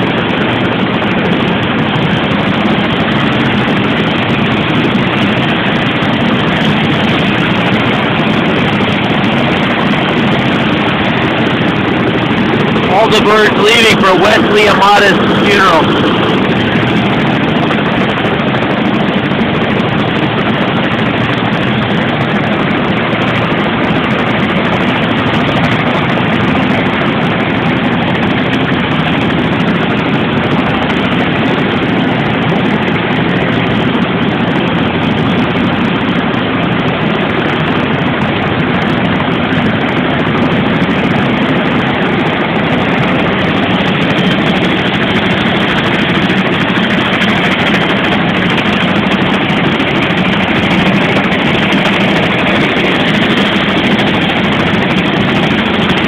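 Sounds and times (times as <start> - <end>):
helicopter rotor drone: 0.0 - 56.0.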